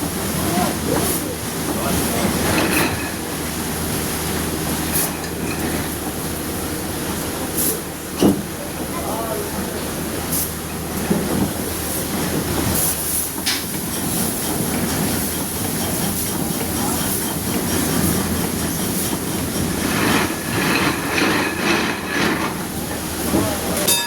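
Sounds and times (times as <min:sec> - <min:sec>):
steam engine running: 0:00.0 - 0:24.0.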